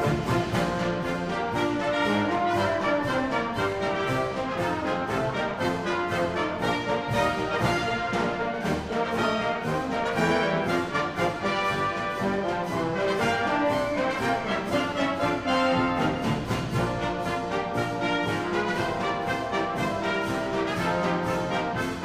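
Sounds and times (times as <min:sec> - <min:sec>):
brass band playing: 0:00.0 - 0:22.0.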